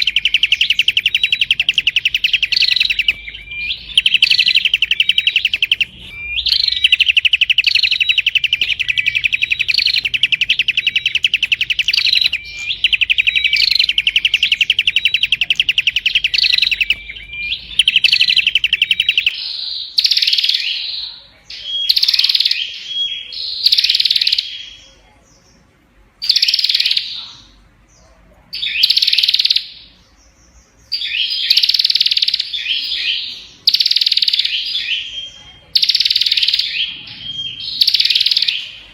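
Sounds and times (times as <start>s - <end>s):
bird singing rapid trills: 0.0s - 21.0s, 21.6s - 24.9s, 26.2s - 27.6s, 28.6s - 38.9s.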